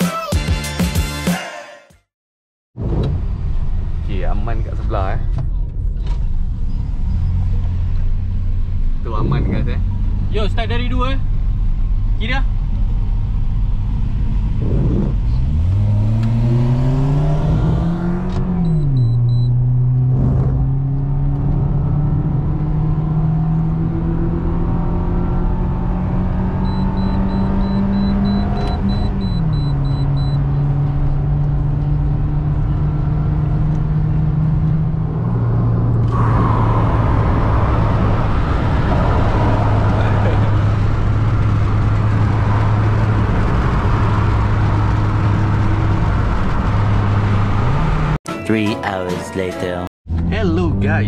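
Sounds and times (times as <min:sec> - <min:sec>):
car engine accelerating: 0:02.8 - 0:48.2
wind and road noise: 0:02.8 - 0:48.2.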